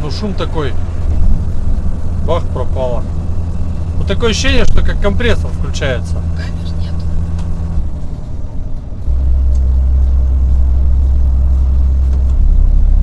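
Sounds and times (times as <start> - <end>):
loud low drone: 0.0 - 13.0.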